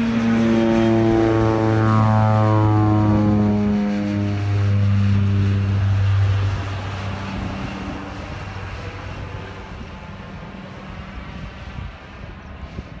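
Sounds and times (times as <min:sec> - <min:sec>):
propeller aircraft droning overhead: 0:00.0 - 0:13.0.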